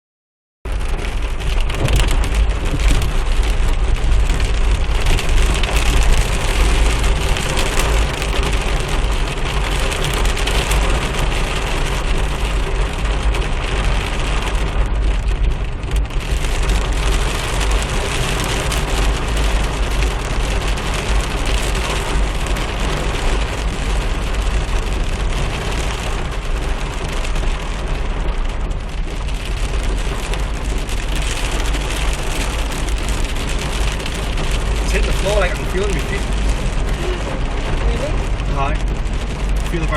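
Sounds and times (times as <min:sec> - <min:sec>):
heavy rain: 0:00.7 - 0:39.9
low rumble: 0:00.7 - 0:39.9.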